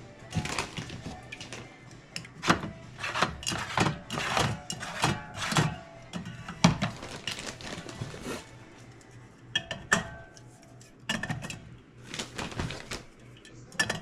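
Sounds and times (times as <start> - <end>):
dishes and utensils clinking: 0.2 - 8.5, 9.5 - 11.8, 12.5 - 14.0.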